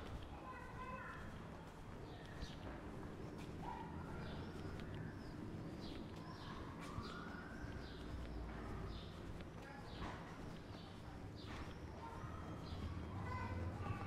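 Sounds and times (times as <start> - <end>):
low street rumble: 0.0 - 14.0
small birds chirping: 0.0 - 14.0.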